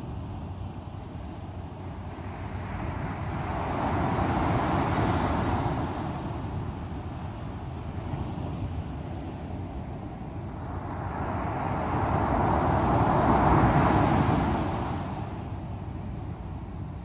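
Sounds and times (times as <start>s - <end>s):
sea waves breaking on shore: 1.2s - 17.0s.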